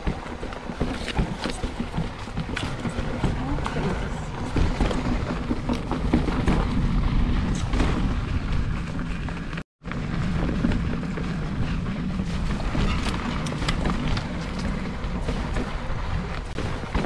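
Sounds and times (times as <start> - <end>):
bike rattles and clicks: 0.0 - 17.0
tyres rumbling on dirt: 0.0 - 17.0.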